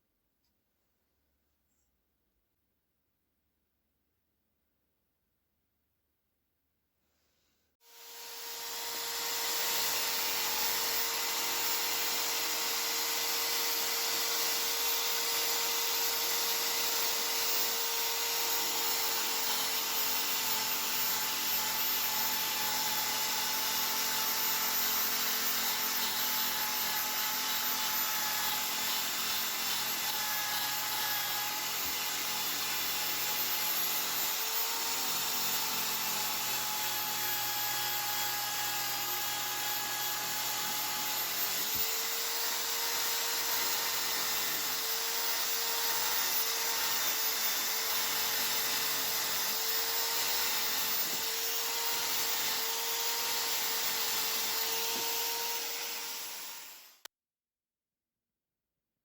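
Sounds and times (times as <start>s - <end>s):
high-speed power tool whining: 7.8s - 57.1s.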